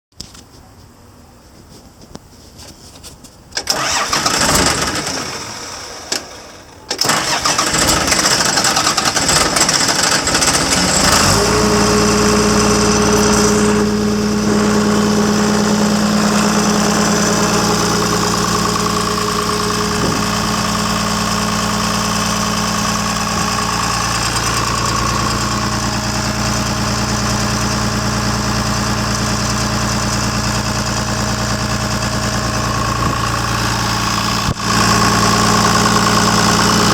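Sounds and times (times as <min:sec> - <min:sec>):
diesel engine starting: 0:03.5 - 0:36.9
diesel engine idling: 0:03.6 - 0:36.9.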